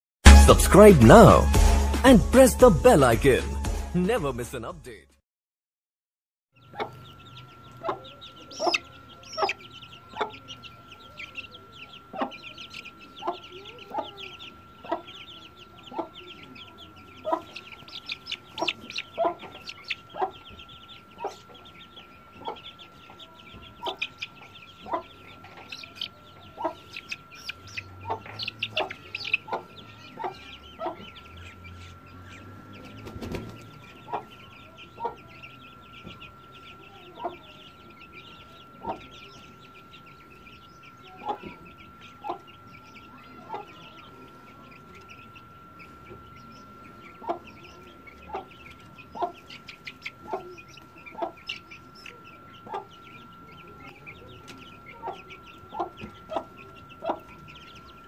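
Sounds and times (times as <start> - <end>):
chickens clucking and peeping: 6.6 - 58.0.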